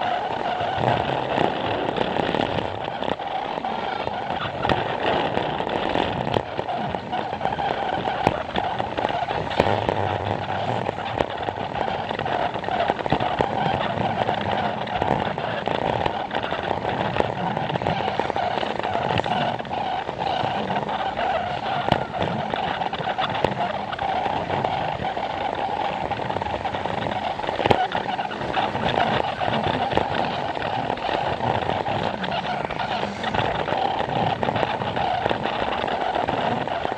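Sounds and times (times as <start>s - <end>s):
crowd chatter: 0.0s - 36.7s
toy train motor whirring: 0.0s - 36.9s.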